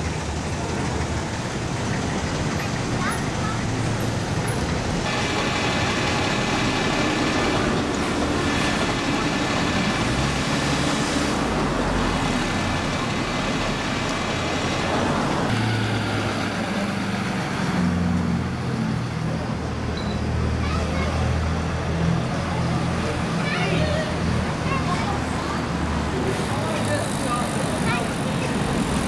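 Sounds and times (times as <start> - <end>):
bus engines running: 0.0 - 29.0
passing street traffic: 0.0 - 29.0.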